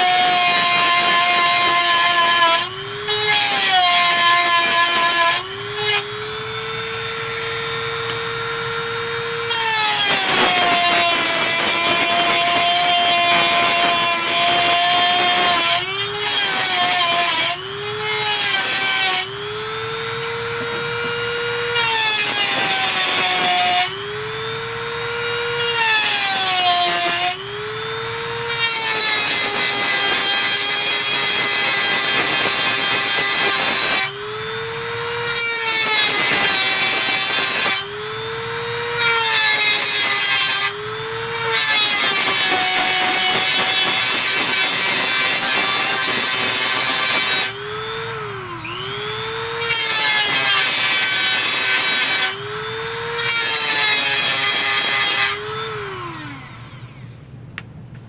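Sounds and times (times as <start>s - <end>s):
electric power tool whining: 0.0s - 57.7s.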